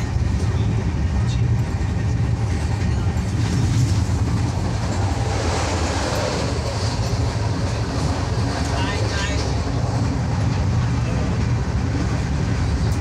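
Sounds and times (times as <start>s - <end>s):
passing train rushing noise: 0.0s - 13.0s
train coach low rumble: 0.0s - 13.0s.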